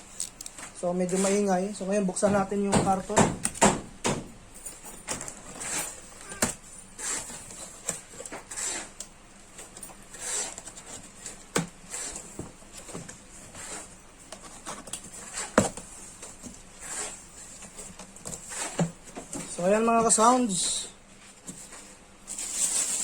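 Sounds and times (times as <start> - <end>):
cardboard rustling and scraping: 0.1 - 3.1, 4.8 - 23.0.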